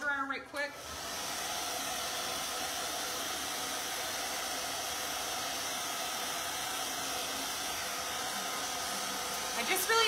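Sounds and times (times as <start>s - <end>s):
blow dryer hissing: 0.7s - 10.0s.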